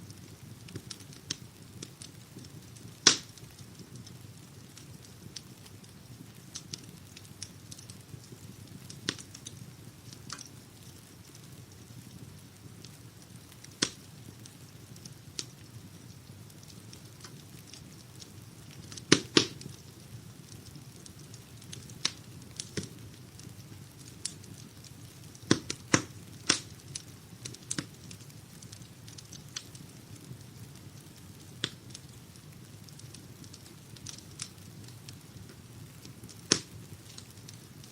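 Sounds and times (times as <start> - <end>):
fire low rush of burning: 0.0 - 37.9
fire pops and snaps: 0.1 - 37.9.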